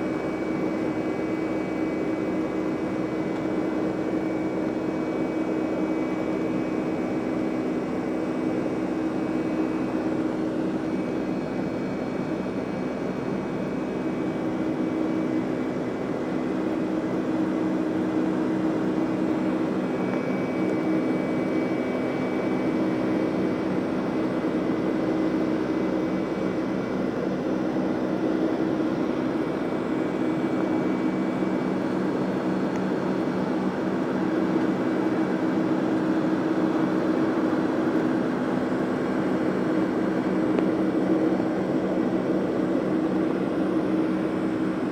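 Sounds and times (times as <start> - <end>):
jet engines roaring in cabin: 0.0 - 44.9.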